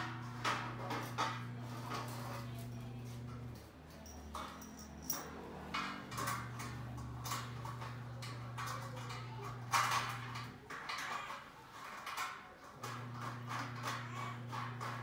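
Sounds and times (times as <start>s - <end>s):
table parts scraping and rustling: 0.0s - 15.0s.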